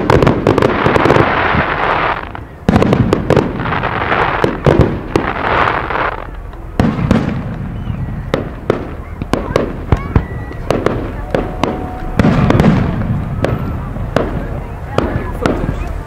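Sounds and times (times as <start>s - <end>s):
firework bangs and launch shots: 0.0s - 15.9s
fireworks hissing and crackling: 0.0s - 16.0s.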